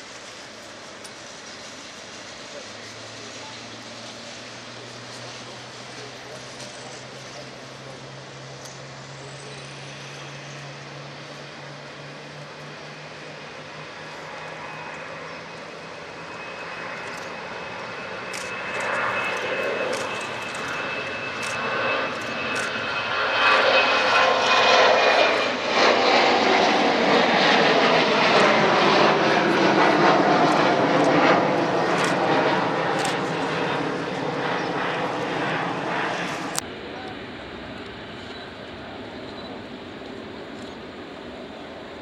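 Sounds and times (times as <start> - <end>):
high jet engine whine: 0.0 - 42.0
jet airliner passing: 0.0 - 42.0.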